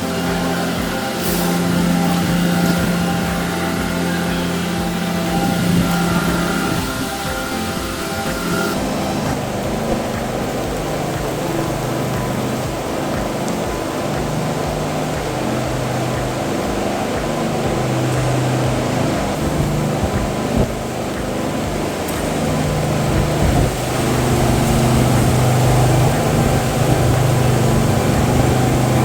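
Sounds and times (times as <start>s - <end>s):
construction machine engine humming: 0.0s - 29.0s.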